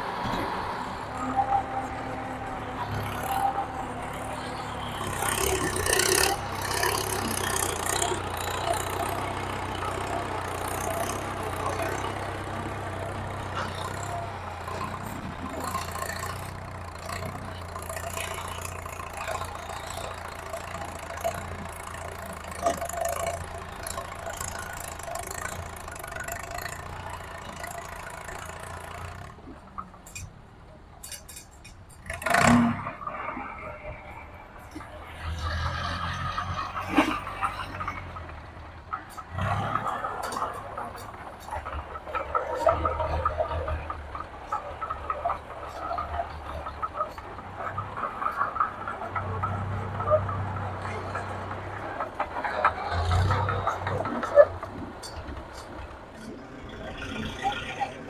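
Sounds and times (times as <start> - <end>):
engine idling: 0.0 - 30.2, 31.0 - 58.0
people talking: 0.0 - 31.4, 39.0 - 58.0.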